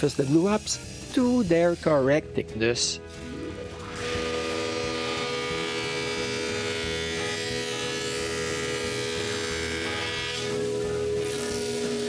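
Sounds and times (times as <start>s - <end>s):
woodworking power tool whining: 0.0s - 1.9s, 3.1s - 12.0s.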